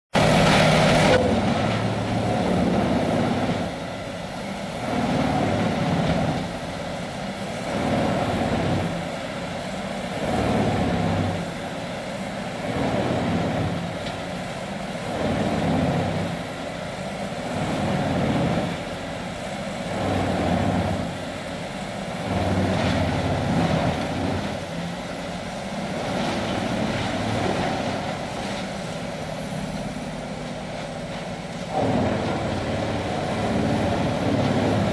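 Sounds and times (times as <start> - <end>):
wood grinder grinding logs: 0.2 - 34.9.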